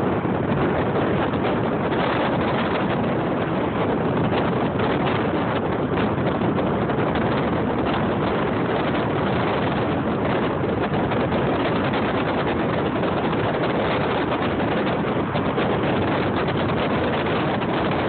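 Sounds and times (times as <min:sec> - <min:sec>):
vehicle road noise: 0:00.0 - 0:18.0
wind over microphone: 0:00.0 - 0:18.0.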